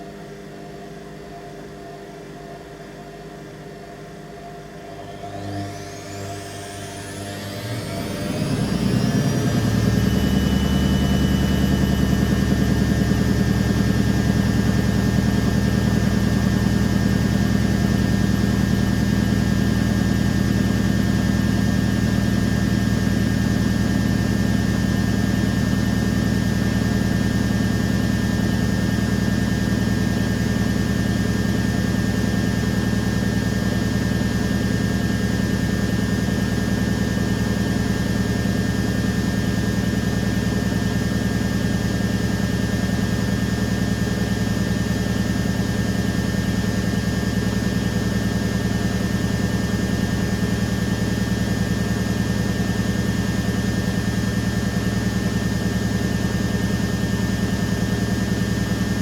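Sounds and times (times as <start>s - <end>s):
washing machine spinning: 3.6s - 59.0s.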